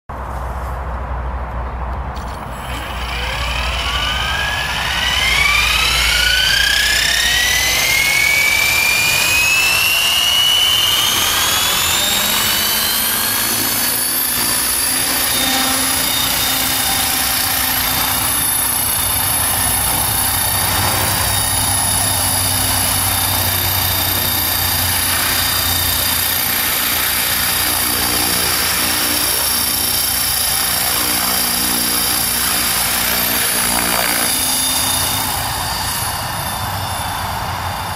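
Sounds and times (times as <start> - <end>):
helicopter motor and gears whining: 2.1 - 37.9
rotor noise: 2.1 - 37.9.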